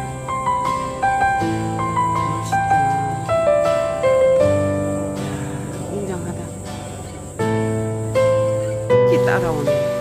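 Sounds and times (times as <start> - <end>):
slow gentle melody: 0.0 - 10.0.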